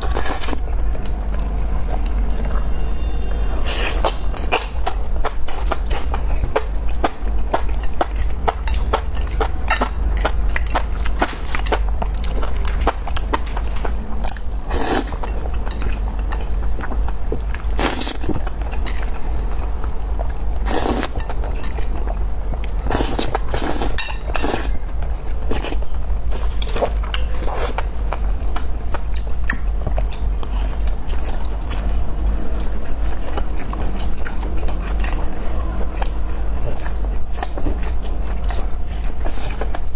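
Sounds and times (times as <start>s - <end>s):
chewing with crisp crunches: 0.0s - 39.9s
steady low hum: 0.0s - 39.9s.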